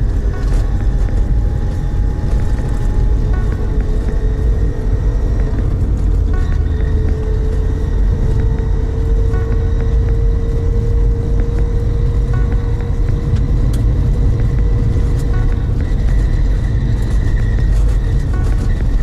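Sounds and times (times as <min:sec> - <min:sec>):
car engine and tyres rumbling: 0:00.0 - 0:19.0
constant whine: 0:00.0 - 0:19.0.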